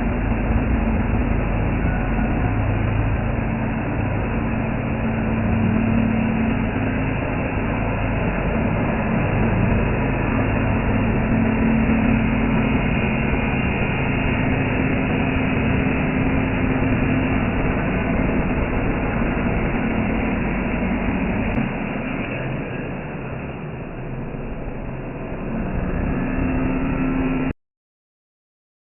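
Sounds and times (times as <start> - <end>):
cnc machine running: 0.0 - 27.5.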